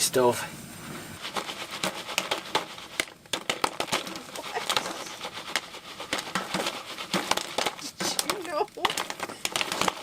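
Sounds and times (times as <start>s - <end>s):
foil pan crinkling: 1.2s - 10.0s.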